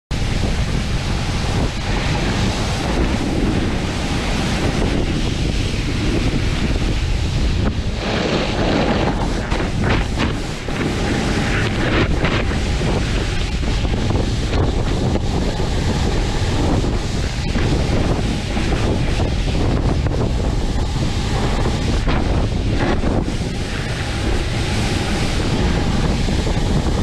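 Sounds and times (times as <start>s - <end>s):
low rumble: 0.1s - 27.0s
wind buffeting microphone: 0.1s - 27.0s
snowboard hissing through snow: 0.2s - 27.0s.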